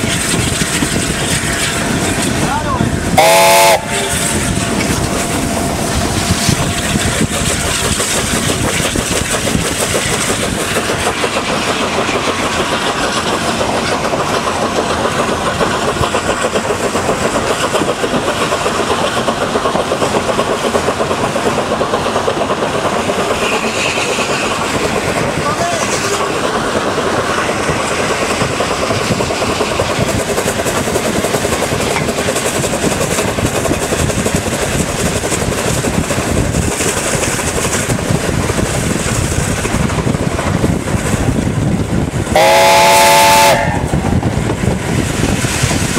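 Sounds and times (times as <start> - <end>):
steam locomotive running on rails: 0.0 - 45.9.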